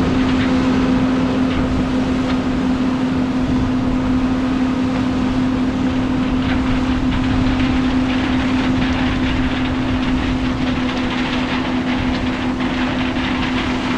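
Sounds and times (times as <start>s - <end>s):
combine harvester running: 0.0s - 13.9s.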